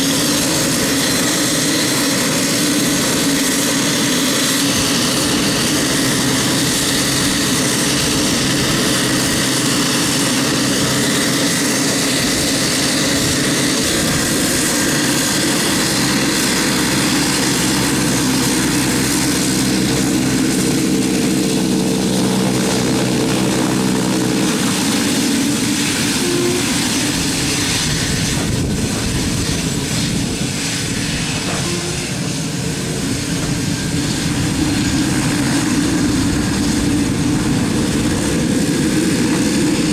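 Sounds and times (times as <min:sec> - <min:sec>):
high turbine hiss: 0:00.0 - 0:39.9
propeller drone: 0:00.0 - 0:39.9.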